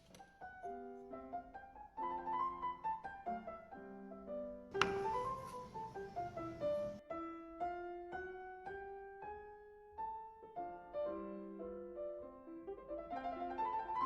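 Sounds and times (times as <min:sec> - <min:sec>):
classical solo piano: 0:00.0 - 0:14.0.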